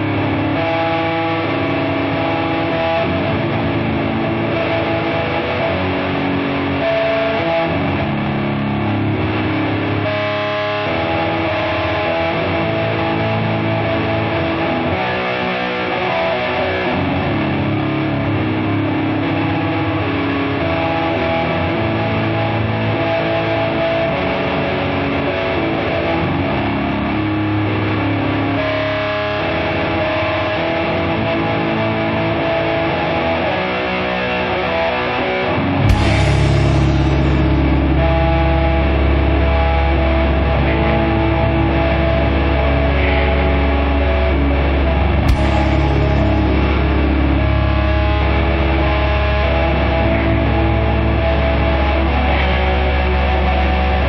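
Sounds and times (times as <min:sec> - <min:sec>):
distorted electric guitar riff: 0:00.0 - 0:54.0.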